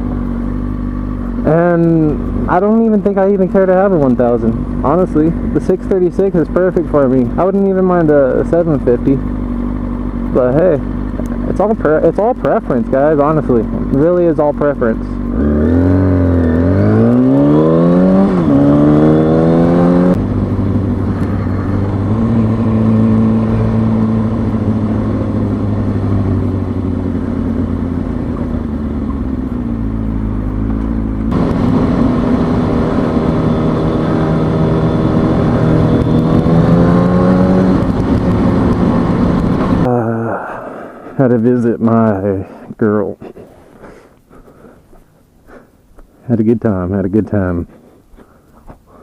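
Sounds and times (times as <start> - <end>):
motorcycle engine accelerating: 0.0 - 40.4.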